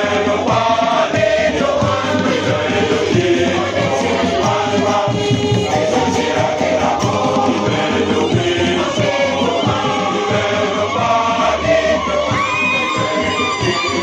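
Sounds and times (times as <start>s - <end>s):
choir singing a hymn: 0.0s - 14.0s
music with steady beat: 0.0s - 14.0s.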